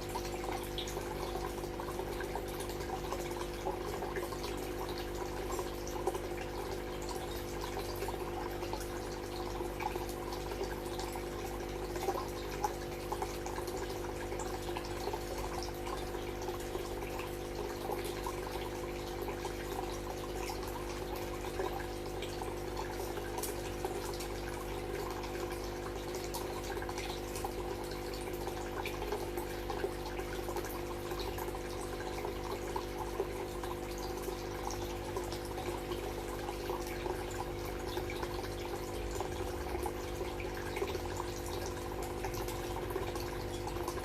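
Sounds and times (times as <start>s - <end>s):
water trickling into fish tanks: 0.0s - 44.0s.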